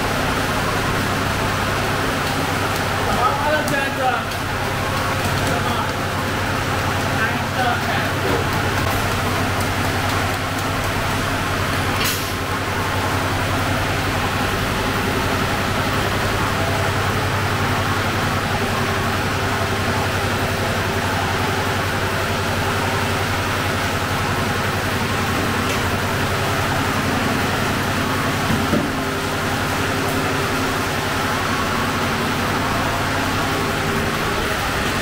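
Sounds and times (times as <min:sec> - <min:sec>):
oven and extractor hood roar: 0:00.0 - 0:35.0.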